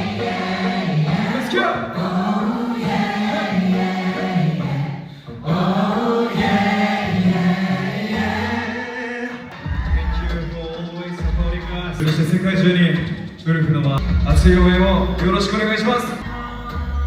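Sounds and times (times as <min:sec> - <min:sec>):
voices singing in harmony: 0:00.0 - 0:12.2, 0:14.8 - 0:17.0.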